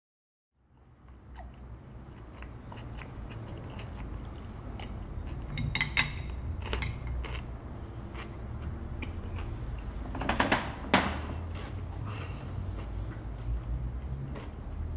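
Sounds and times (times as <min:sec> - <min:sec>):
low steady hum: 0:00.6 - 0:14.9
person chewing: 0:00.7 - 0:09.9, 0:11.3 - 0:14.9.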